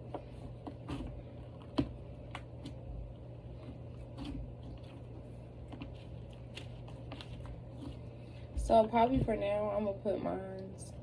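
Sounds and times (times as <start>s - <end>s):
slime squishing by hand: 0.0s - 9.5s.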